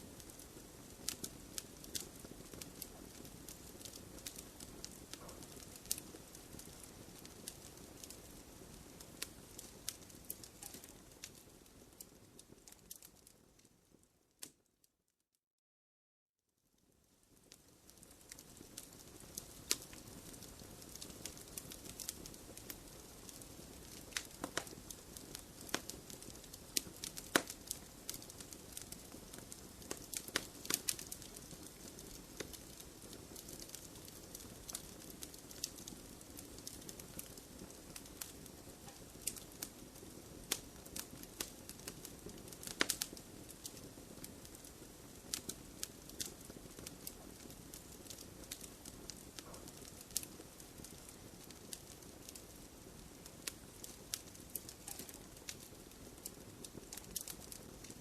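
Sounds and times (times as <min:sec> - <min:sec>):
fire popping and snapping: 0:00.0 - 0:14.6, 0:16.8 - 0:58.0
wood fire crackling: 0:00.0 - 0:14.6, 0:16.8 - 0:58.0.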